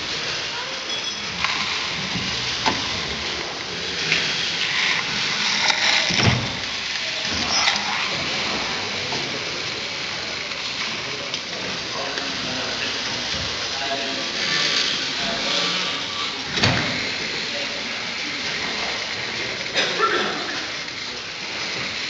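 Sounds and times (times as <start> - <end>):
steam engine hiss and clatter: 0.0 - 22.0.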